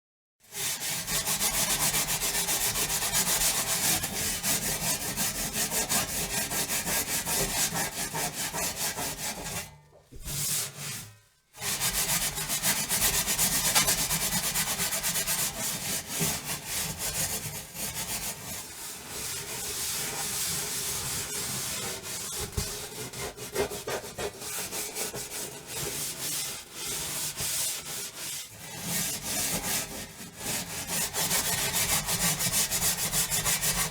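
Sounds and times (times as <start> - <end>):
oven surface being scrubbed: 0.6 - 33.9.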